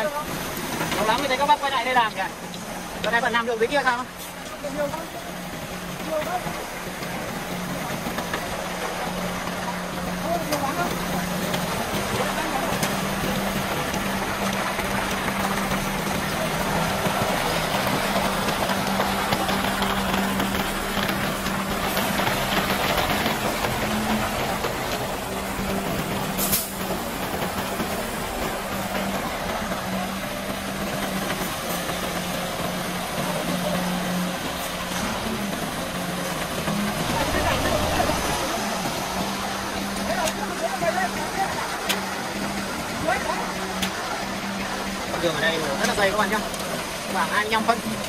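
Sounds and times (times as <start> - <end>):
truck engine running steadily: 0.0 - 48.0
wet concrete pouring down chute: 0.0 - 48.0.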